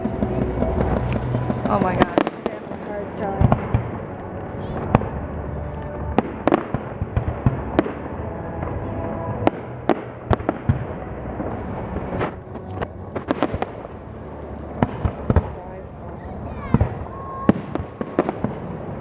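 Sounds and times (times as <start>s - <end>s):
fireworks bangs: 0.0s - 13.9s, 16.3s - 19.0s
low rumble: 0.0s - 18.9s.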